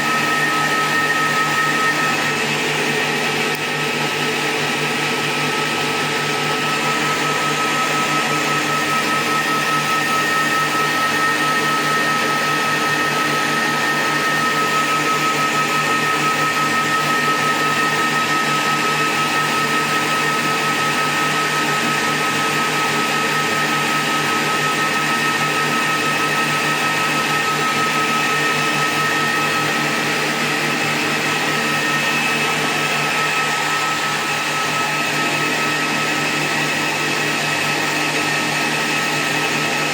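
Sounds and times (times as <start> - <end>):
high-pitched whine: 0.0 - 18.0, 24.2 - 39.8
power supply whirring: 0.0 - 39.9.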